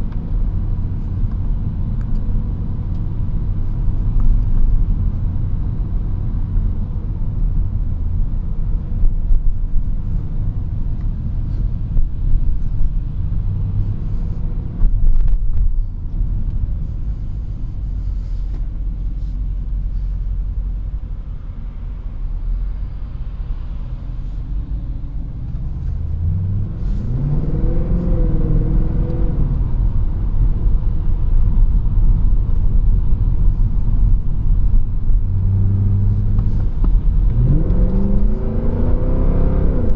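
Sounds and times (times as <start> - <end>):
car engine low drone: 0.0 - 39.9.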